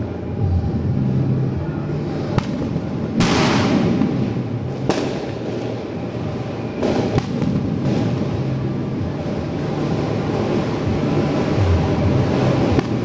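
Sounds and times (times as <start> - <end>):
firecracker crackling: 0.0 - 13.0
firework bangs: 2.0 - 13.0.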